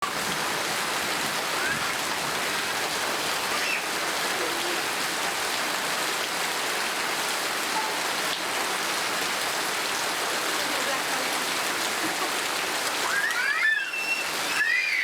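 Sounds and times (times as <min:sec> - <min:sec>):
steady rain spattering: 0:00.0 - 0:15.0.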